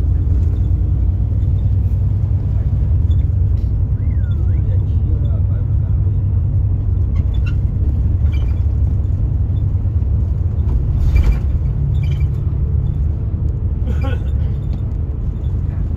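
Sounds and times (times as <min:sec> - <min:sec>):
car rumble from inside cabin: 0:00.0 - 0:15.9.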